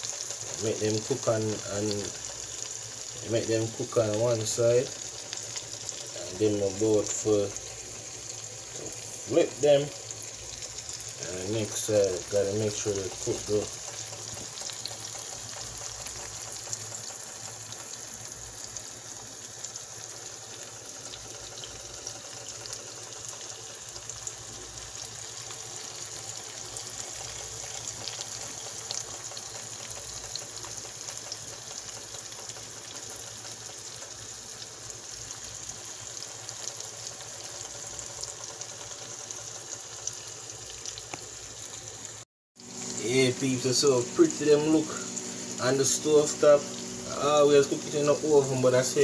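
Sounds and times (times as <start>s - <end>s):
fish frying in oil: 0.0s - 49.0s
oil popping and crackling: 0.0s - 49.0s.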